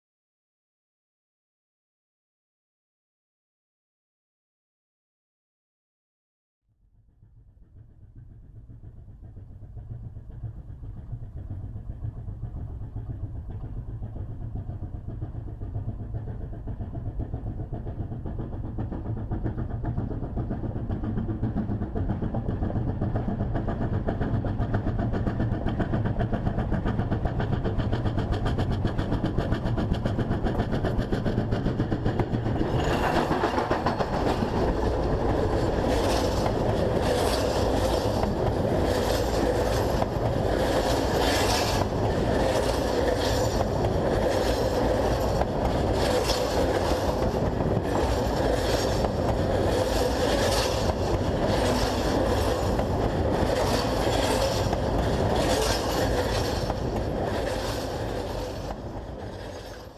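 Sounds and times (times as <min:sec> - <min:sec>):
steam locomotive chuffing: 0:07.4 - 0:59.9
wheel and rail noise: 0:09.0 - 0:59.9.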